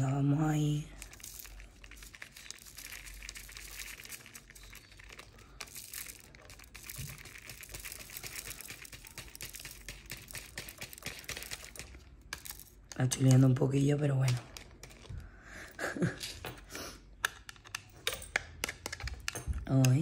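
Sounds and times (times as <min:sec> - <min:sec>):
plastic parts clicking and rattling: 0:00.9 - 0:15.4, 0:16.1 - 0:20.0.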